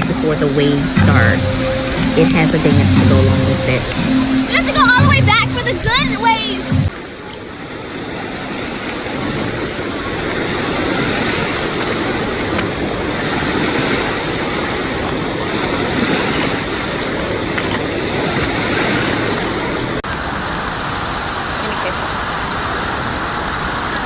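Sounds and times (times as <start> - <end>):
surf washing and foaming: 0.0 - 24.0.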